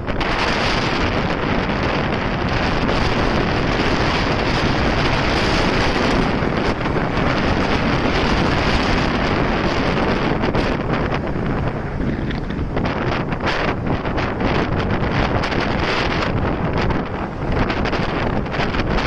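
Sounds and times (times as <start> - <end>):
motorcycle engine: 0.0 - 19.0
road noise: 0.0 - 19.0
wind buffeting microphone: 0.0 - 19.0.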